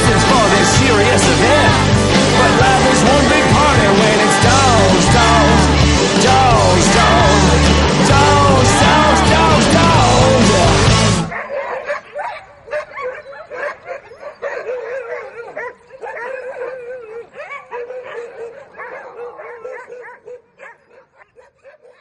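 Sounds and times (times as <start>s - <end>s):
huskies howling and yipping: 0.0s - 22.0s.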